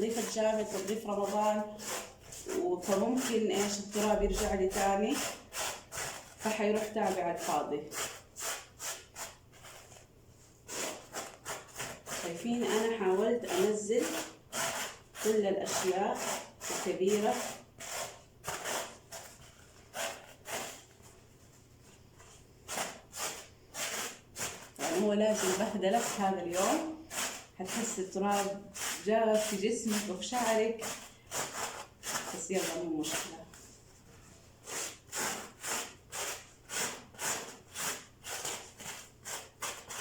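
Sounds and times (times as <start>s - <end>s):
brush scrubbing cloth bag: 0.0s - 10.0s, 10.6s - 21.6s, 22.2s - 40.0s.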